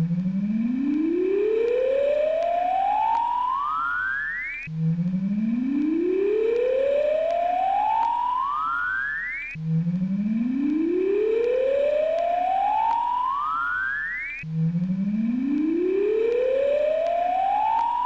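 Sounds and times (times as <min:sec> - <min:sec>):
siren-like rising wail: 0:00.0 - 0:18.0.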